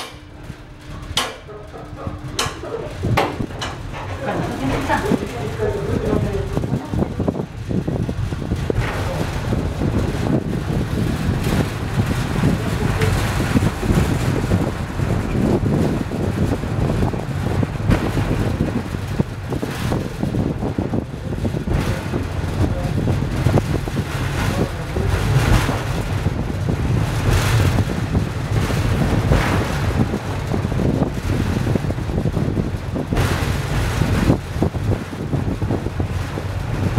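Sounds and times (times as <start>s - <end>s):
funicular car rumbling on rails: 0.0s - 36.9s
wind buffeting microphone: 0.0s - 36.9s.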